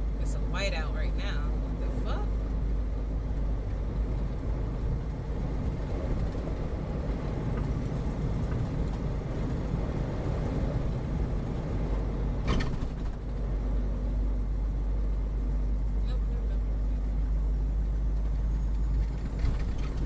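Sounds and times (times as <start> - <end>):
vehicle road and engine rumble: 0.0 - 20.0.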